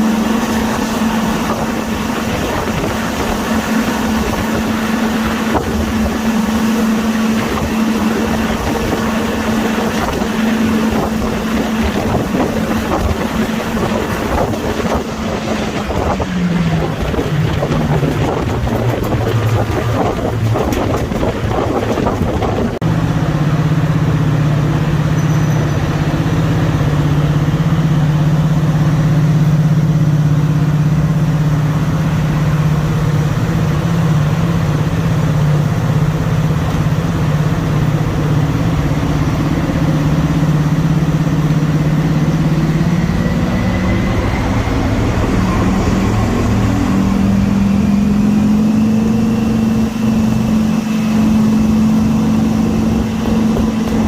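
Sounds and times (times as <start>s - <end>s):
diesel locomotive engines thrashing: 0.0s - 54.0s.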